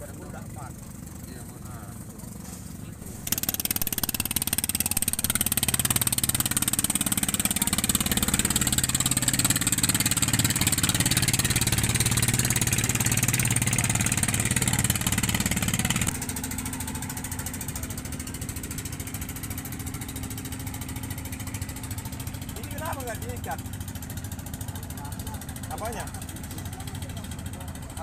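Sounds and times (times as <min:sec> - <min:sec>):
boat engine running: 0:00.5 - 0:28.0.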